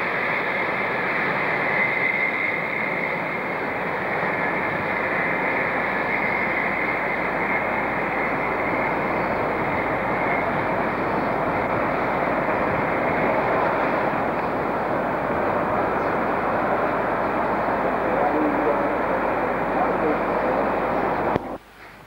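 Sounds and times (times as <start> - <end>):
train rumbling along track: 0.0 - 22.0.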